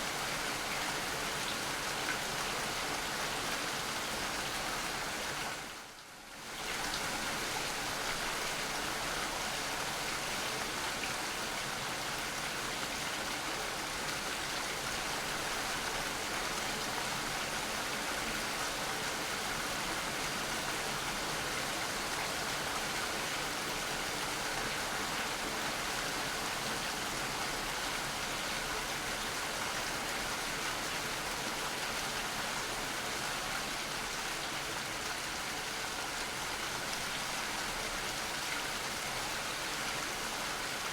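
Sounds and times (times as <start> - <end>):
dense rain falling: 0.0 - 40.9.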